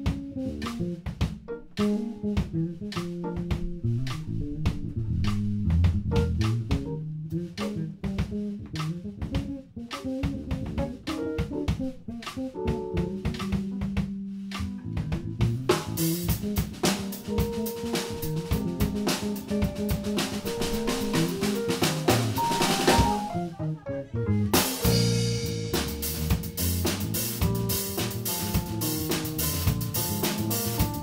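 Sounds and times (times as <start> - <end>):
busy drum hits: 0.0 - 7.0, 7.6 - 23.4, 24.6 - 31.0
instrumental funk band: 0.0 - 31.0.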